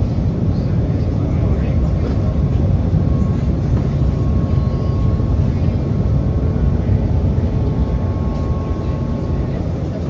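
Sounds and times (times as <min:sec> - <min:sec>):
trolley rumbling on track: 0:00.0 - 0:10.0.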